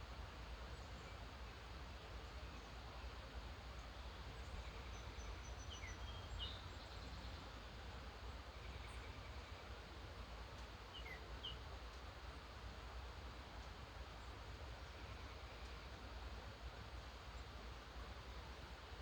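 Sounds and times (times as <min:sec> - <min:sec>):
background hiss and low rumble: 0:00.0 - 0:19.0.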